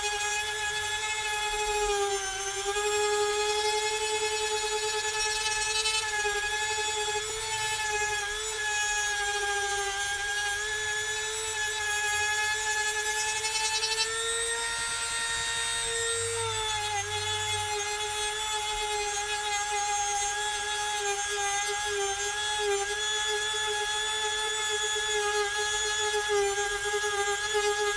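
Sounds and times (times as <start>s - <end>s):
rotary tool grinding silicone: 0.0s - 27.9s.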